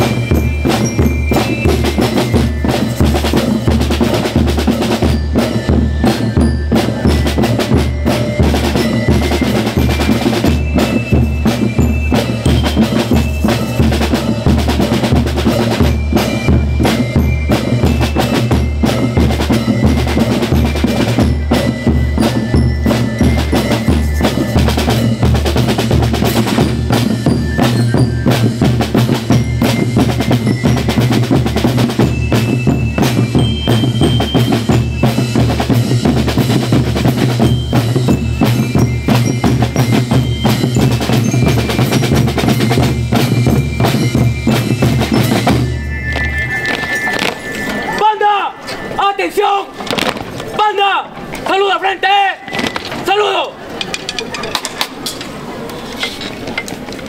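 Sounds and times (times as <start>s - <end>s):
snare drum rolls: 0.0s - 47.9s
bell lyre notes ringing: 0.0s - 50.6s.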